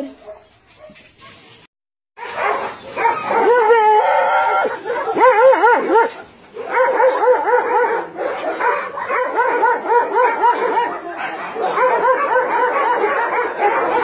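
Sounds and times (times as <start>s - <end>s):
dogs whining and yelping: 2.2s - 14.0s.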